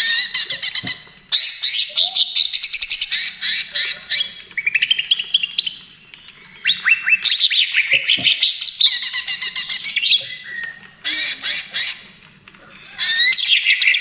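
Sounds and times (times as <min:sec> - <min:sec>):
bird singing rapid chirps and trills: 0:00.0 - 0:14.0.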